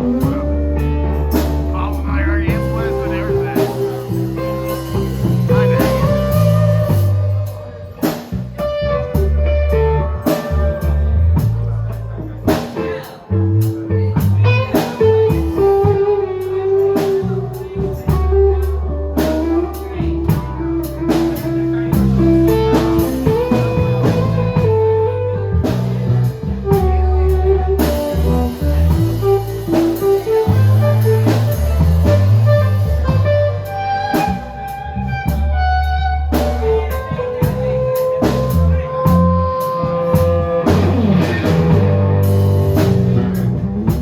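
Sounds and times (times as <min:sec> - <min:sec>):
bass guitar: 0:00.0 - 0:44.0
drum kit: 0:00.0 - 0:44.0
lead guitar melody: 0:00.0 - 0:44.0.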